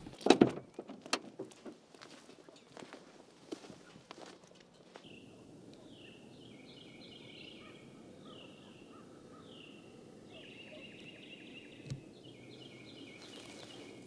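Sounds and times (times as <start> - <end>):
faint songbirds singing: 2.4 - 14.0.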